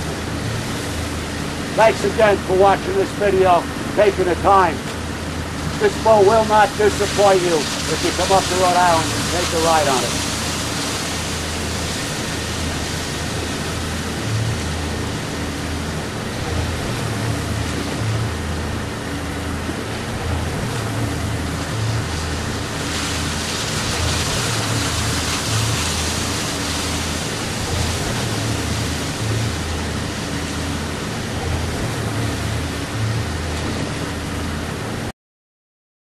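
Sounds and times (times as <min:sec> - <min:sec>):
powerboat engine hum: 0:00.0 - 0:35.1
rushing water: 0:00.0 - 0:35.1
wind: 0:00.0 - 0:35.1.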